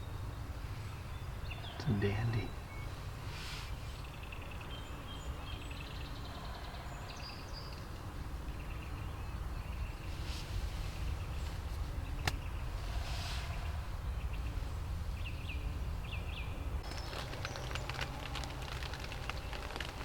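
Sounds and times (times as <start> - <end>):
songbirds singing and trilling: 0.0 - 20.0
wind rumble on microphone: 2.9 - 20.0.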